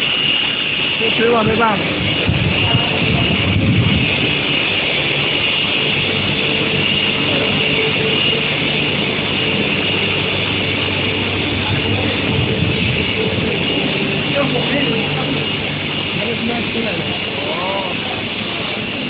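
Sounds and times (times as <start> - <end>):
mechanical rumble: 0.0 - 19.0
steady high whine: 0.0 - 19.0.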